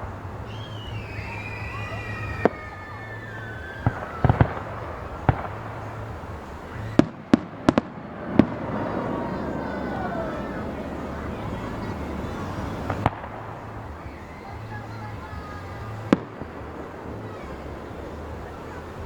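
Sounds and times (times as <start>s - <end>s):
falling firework whistles: 0.0s - 19.0s
sharp firework bangs: 0.0s - 19.0s.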